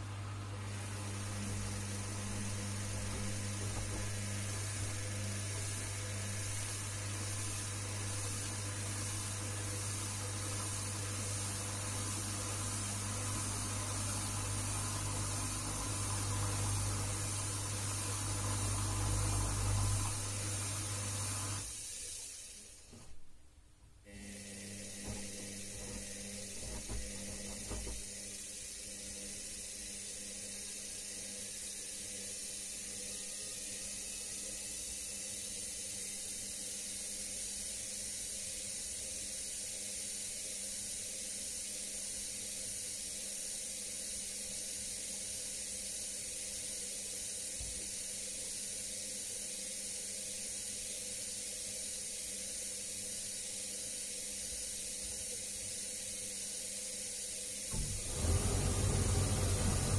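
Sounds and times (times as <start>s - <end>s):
water flowing with steady hiss: 0.0s - 23.0s, 31.9s - 59.9s.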